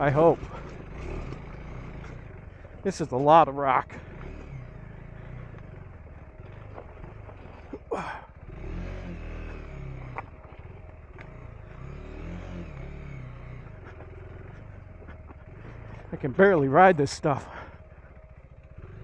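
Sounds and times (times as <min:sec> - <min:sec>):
dirt bike engine at low revs: 0:00.0 - 0:19.0.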